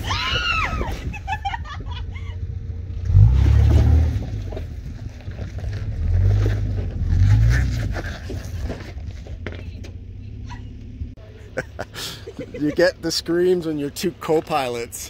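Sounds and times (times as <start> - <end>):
truck engine revving: 2.4 - 15.0.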